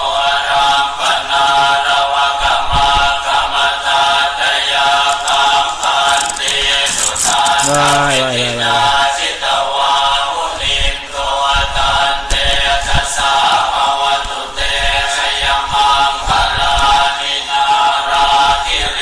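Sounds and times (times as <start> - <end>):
singing voices: 0.0 - 19.0.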